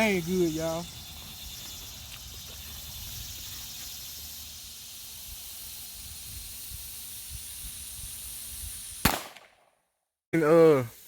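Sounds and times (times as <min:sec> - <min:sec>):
steady outdoor hiss: 0:00.0 - 0:09.6, 0:10.4 - 0:11.0.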